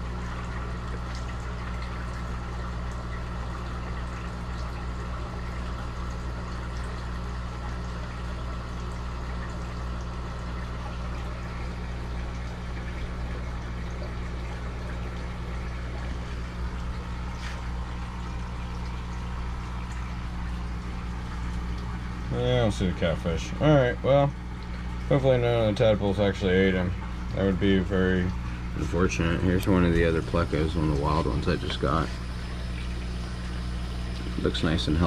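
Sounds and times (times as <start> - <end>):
water pump humming: 0.0 - 35.0
water trickling: 0.0 - 35.0.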